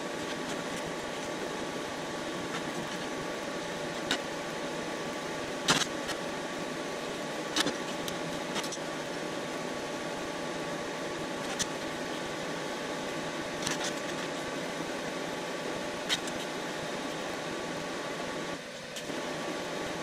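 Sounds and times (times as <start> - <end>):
shop machinery hum: 0.0 - 20.0.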